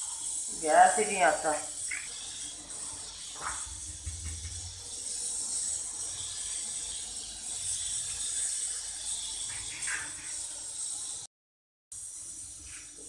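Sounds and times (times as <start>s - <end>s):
flatbread sizzling on hot griddle: 0.0s - 11.3s, 11.9s - 13.0s.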